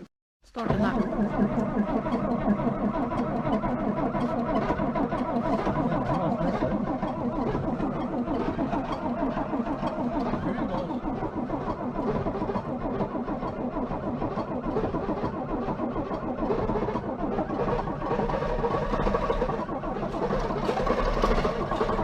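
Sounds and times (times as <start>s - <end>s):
starter motor cranking: 0.5s - 22.0s.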